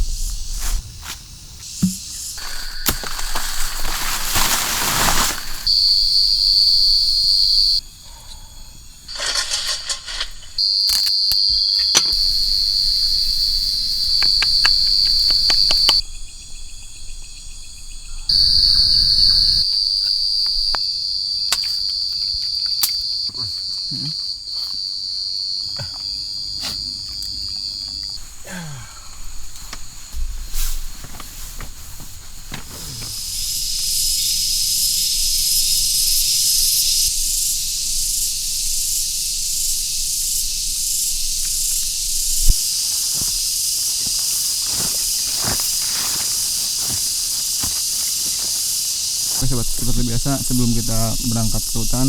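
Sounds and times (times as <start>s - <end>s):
insects buzzing high-pitched: 0.0s - 52.0s.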